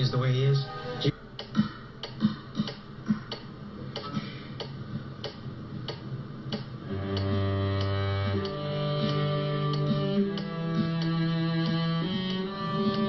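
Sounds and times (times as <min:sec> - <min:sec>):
steady clock ticking: 0:01.3 - 0:13.0.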